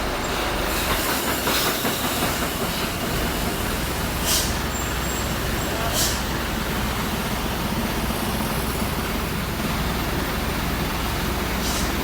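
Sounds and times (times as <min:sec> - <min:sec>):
diesel truck engine rumbling: 0:00.0 - 0:12.0
road noise: 0:00.0 - 0:12.0.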